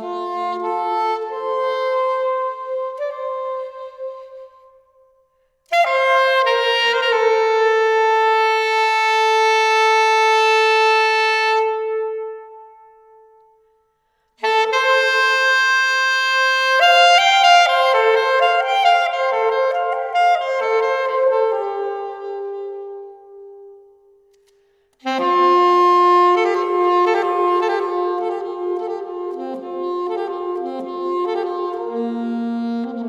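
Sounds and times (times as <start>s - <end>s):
solo saxophone improvising: 0.0s - 4.7s, 5.7s - 13.6s, 14.4s - 33.0s.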